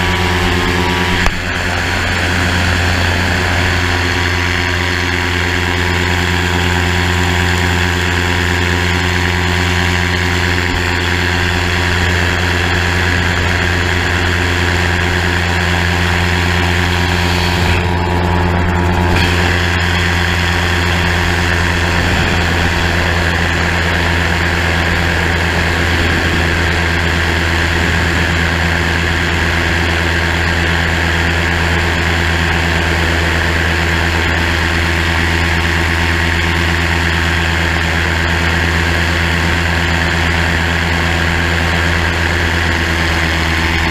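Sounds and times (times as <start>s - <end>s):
gyrocopter engine and propeller: 0.0s - 43.9s.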